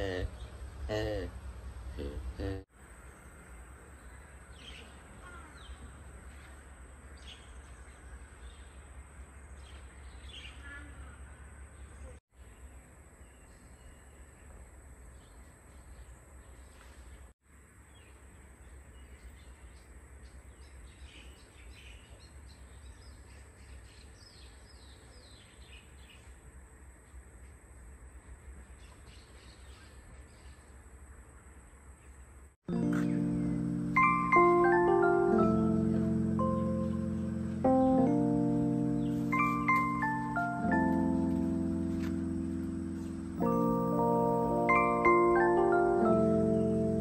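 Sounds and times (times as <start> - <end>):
faint birdsong chirps: 1.9 - 47.0.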